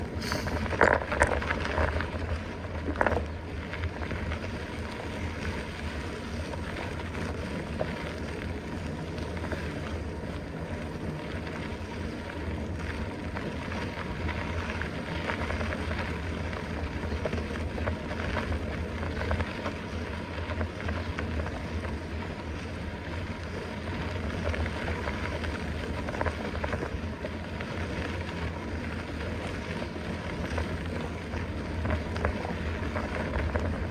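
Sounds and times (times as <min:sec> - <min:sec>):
bike tyres rolling on trail: 0:00.0 - 0:33.9.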